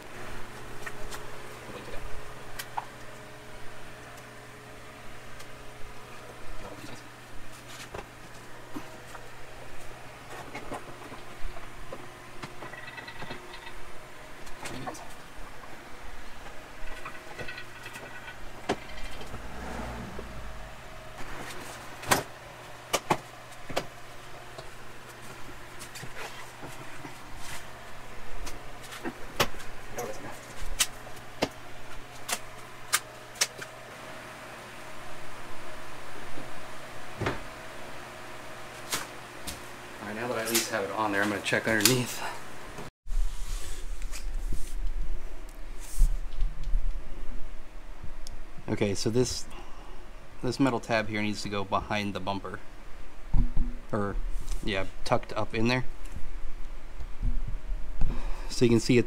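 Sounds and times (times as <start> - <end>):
steady low hum: 0.0 - 42.9, 44.2 - 59.0.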